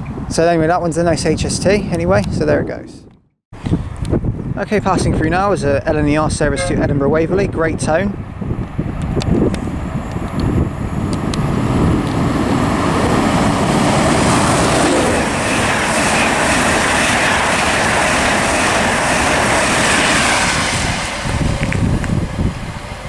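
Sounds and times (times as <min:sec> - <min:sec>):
train passing with rushing roar: 0:03.8 - 0:23.0.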